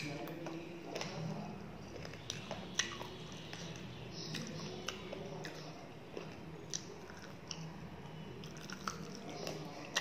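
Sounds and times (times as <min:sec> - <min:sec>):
fingers mixing food on steel plate: 0:00.0 - 0:10.0
wet chewing clicks: 0:00.0 - 0:10.0.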